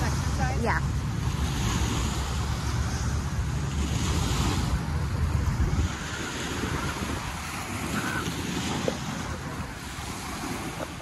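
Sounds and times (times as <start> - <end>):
small waves breaking on shore: 0.0 - 11.0
wind buffeting microphone: 0.0 - 11.0.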